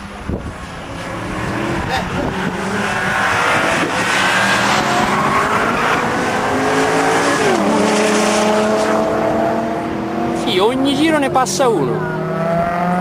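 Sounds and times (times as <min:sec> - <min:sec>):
race car engines at speed: 0:00.0 - 0:13.0.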